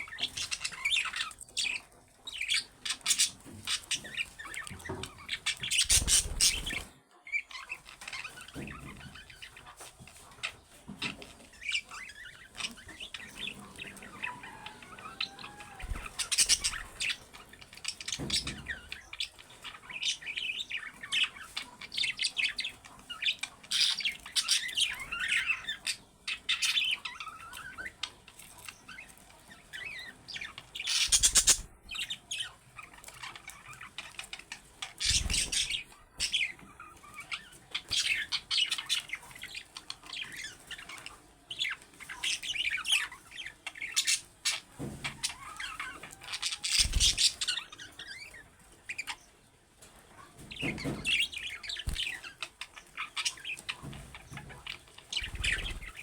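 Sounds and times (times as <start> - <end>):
budgerigars chattering: 0.0 - 49.4, 50.2 - 56.0.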